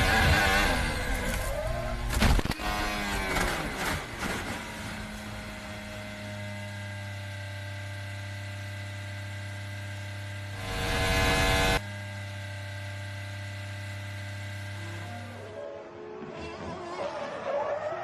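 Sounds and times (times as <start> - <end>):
mechanical drone: 0.0 - 18.0.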